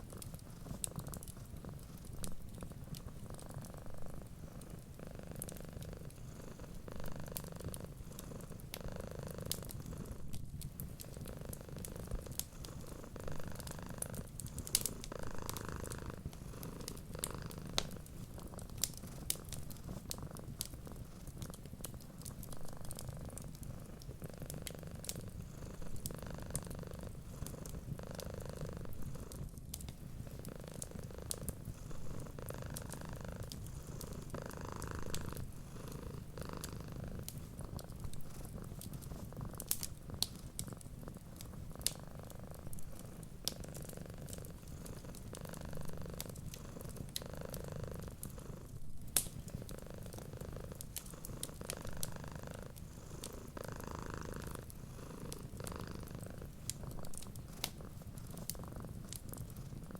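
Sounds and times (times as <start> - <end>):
cat purring: 0.0 - 59.9
fireplace fire crackling: 0.0 - 59.9.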